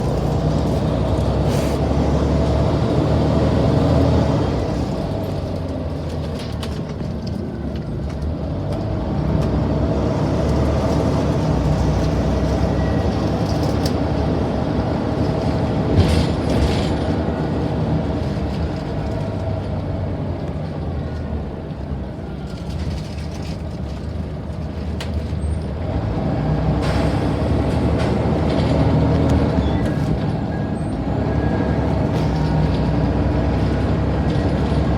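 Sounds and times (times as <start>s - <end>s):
double-deck bus engine driving: 0.0s - 34.9s.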